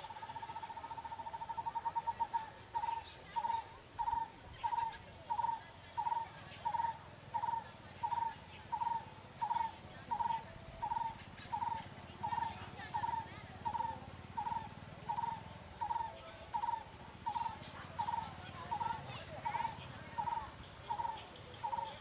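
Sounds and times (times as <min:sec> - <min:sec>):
bird trilling and calling: 0:00.0 - 0:22.0.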